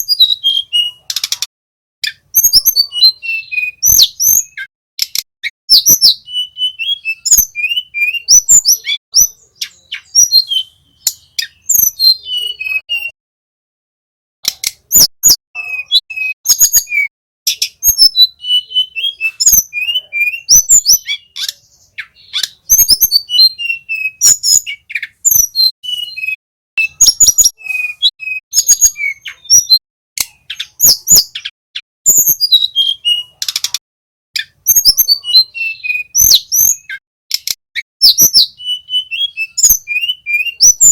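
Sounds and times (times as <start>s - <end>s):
bird singing chirps and trills: 0.0s - 13.2s, 14.4s - 33.8s, 34.4s - 40.9s.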